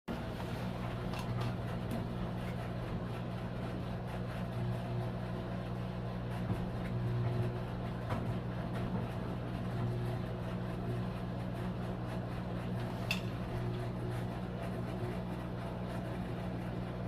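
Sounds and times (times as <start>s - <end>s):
washing machine motor hum: 0.1s - 17.0s.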